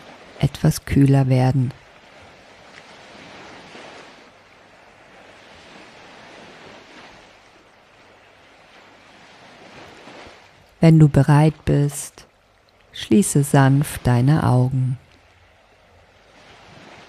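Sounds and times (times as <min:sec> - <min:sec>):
soft ocean surf: 0:00.0 - 0:17.0.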